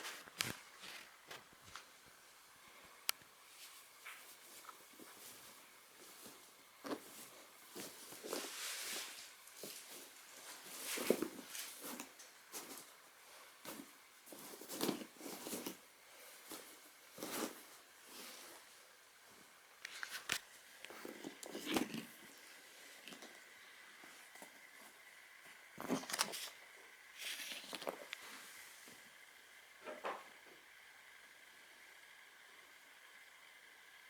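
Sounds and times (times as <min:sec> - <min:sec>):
rustling and handling noises: 0:00.0 - 0:30.6.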